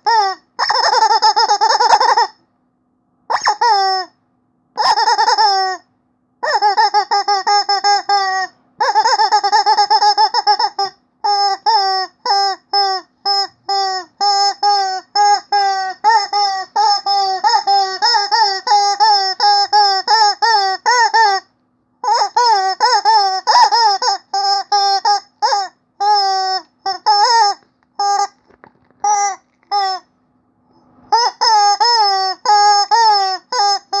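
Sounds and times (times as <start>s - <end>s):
rubber chicken toy squeaking: 0.0s - 2.4s, 3.3s - 4.2s, 4.8s - 30.1s, 31.1s - 34.0s.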